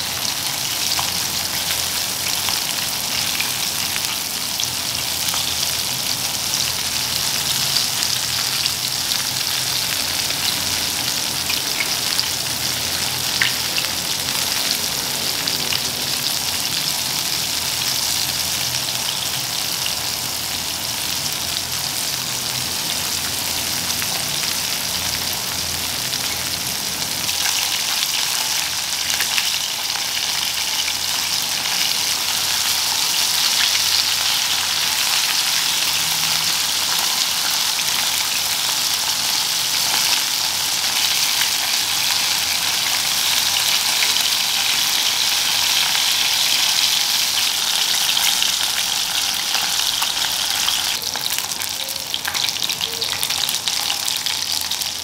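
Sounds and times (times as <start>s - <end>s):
chicken wings sizzling in oil: 0.0s - 55.0s.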